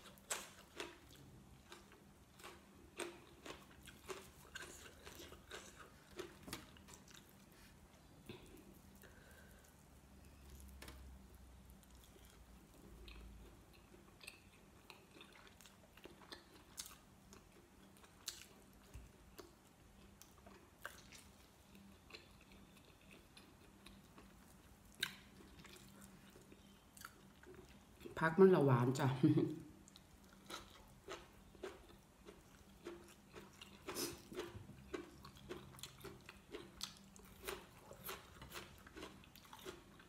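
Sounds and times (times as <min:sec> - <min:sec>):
faint chewing and mouth sounds: 0:00.0 - 0:28.2, 0:29.4 - 0:40.0.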